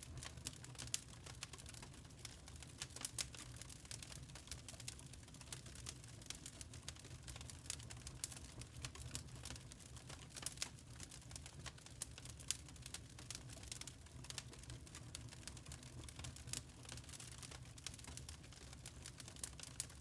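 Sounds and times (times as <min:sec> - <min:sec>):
charcoal crackling and popping: 0:00.0 - 0:20.0.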